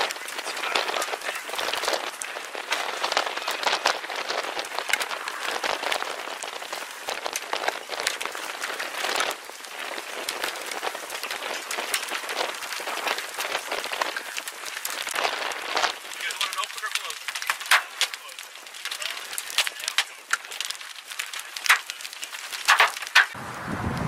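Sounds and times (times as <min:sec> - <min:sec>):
heavy rain on hard surface: 0:00.0 - 0:24.0.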